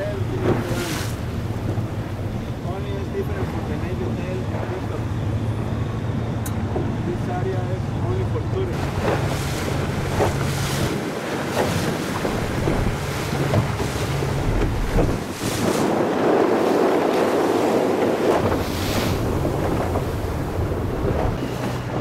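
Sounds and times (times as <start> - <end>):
boat engine humming: 0.0 - 22.0
water splashing against hull: 0.0 - 22.0
wind buffeting microphone: 0.0 - 22.0.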